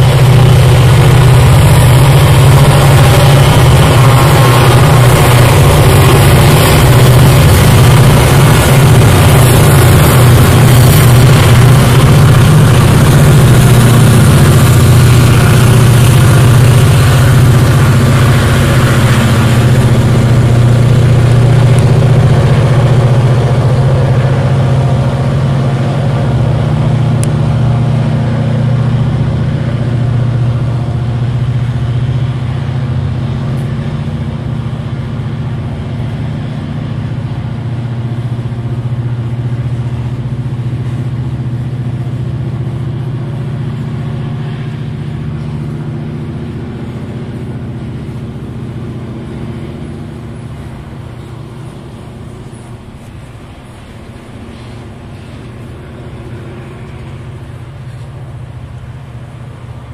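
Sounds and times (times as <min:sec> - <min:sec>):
diesel engine hum: 0:00.0 - 0:59.9
train wagons rumbling: 0:00.0 - 0:59.9.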